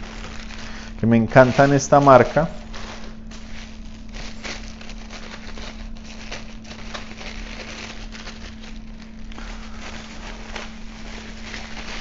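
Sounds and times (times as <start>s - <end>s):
plastic wrap crinkling: 0.0s - 12.0s
steady low hum: 0.0s - 12.0s.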